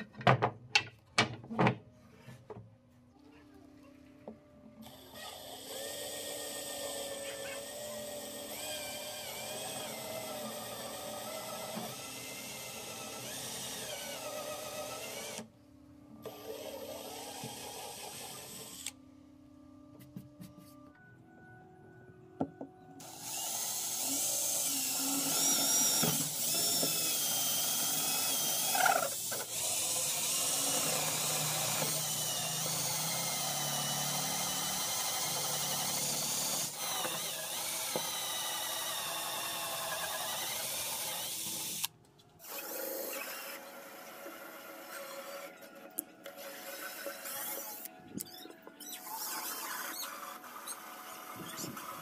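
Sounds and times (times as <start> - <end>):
cordless drill boring into wood: 4.8 - 15.5, 16.2 - 19.0, 23.0 - 52.0.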